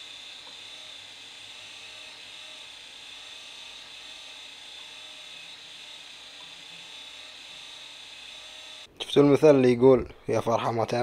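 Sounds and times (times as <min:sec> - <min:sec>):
motor whirring with high whine: 0:00.0 - 0:08.9.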